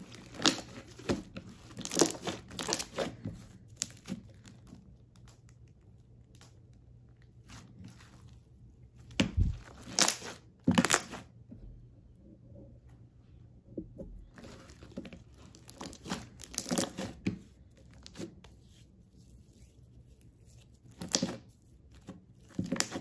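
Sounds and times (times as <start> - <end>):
slime squishing: 0.0 - 11.4, 14.2 - 23.0.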